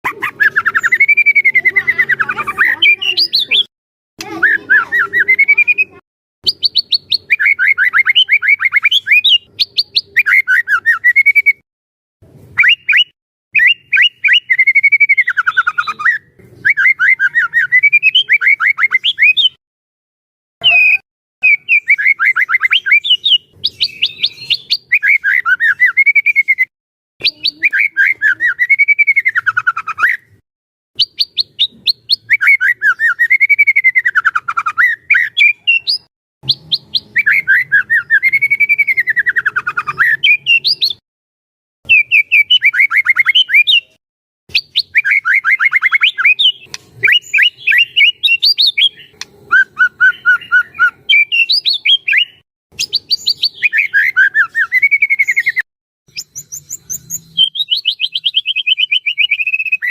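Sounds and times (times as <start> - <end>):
bird singing: 0.1 - 11.6, 12.6 - 19.6, 20.6 - 30.4, 31.0 - 41.0, 41.9 - 59.9.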